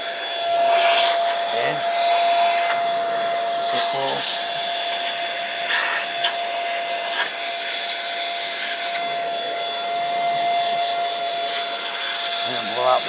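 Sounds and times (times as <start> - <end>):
handheld vacuum blower whine: 0.0 - 13.0.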